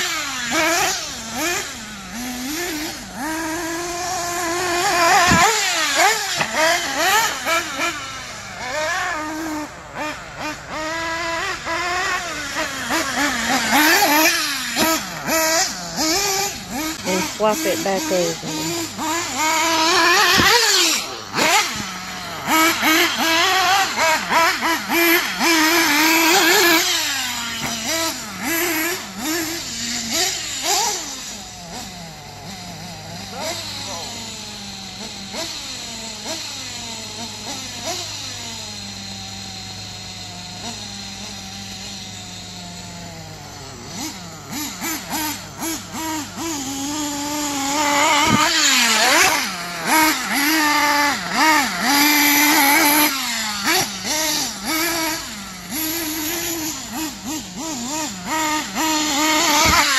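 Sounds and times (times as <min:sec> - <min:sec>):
small engine revving whine: 0:00.0 - 0:59.9.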